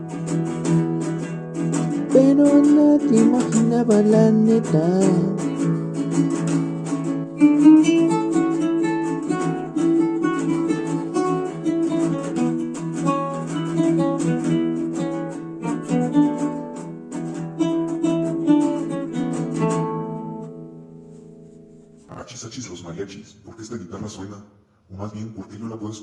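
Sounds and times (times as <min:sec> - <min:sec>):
acoustic guitar picking and strumming: 0:00.0 - 0:22.2.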